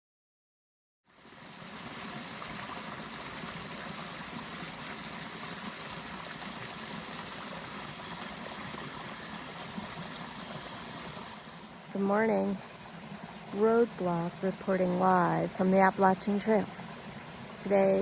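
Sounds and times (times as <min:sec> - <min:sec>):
running water rushing: 0:01.1 - 0:18.0.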